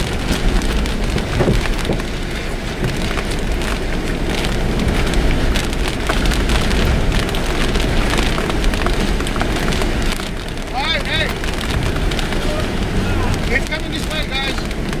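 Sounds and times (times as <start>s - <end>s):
heavy low rumble: 0.0s - 15.0s
sharp crackles: 0.0s - 15.0s
storm wind buffeting microphone: 0.0s - 15.0s.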